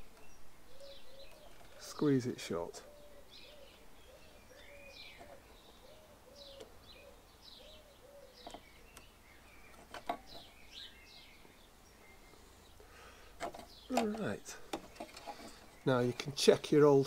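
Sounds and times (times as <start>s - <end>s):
low repeated bird call: 0.0s - 17.0s
small birds chirping: 0.0s - 17.0s.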